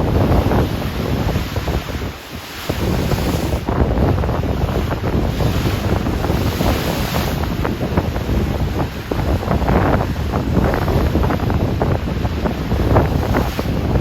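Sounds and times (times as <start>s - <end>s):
ocean waves breaking: 0.0s - 14.0s
wind buffeting the microphone: 0.0s - 14.0s.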